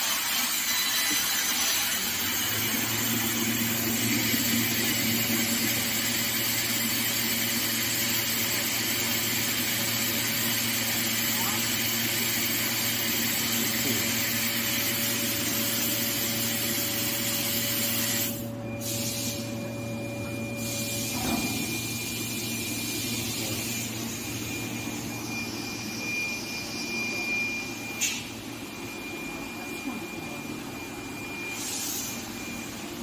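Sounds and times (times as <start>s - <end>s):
thin steady whine: 0.6s - 33.0s.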